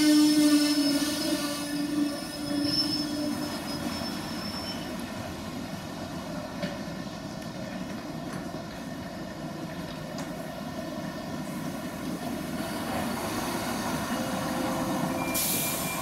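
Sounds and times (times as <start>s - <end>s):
electric train whine: 0.0s - 16.0s
station rumbling noise: 0.0s - 16.0s.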